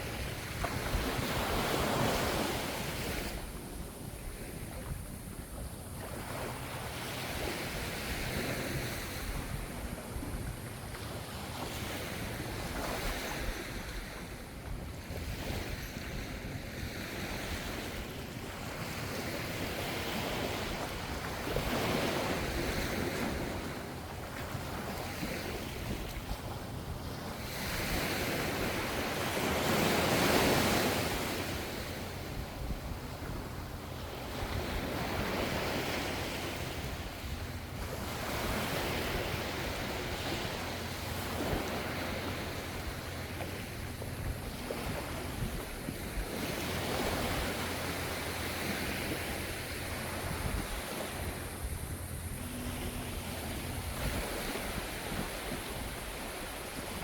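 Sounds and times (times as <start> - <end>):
ocean waves washing onto shore: 0.0 - 57.0.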